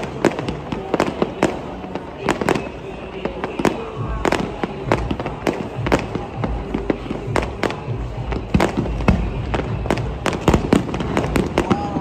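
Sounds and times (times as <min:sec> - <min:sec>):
fireworks bangs and pops: 0:00.0 - 0:12.0
low rumble of fireworks: 0:00.0 - 0:12.0.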